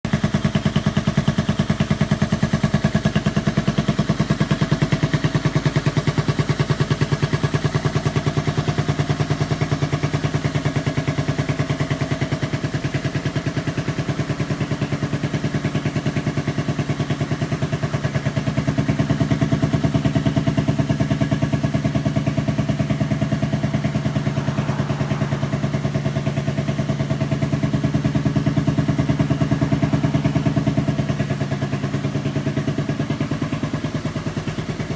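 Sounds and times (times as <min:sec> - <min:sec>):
scooter engine idling: 0:00.1 - 0:34.9.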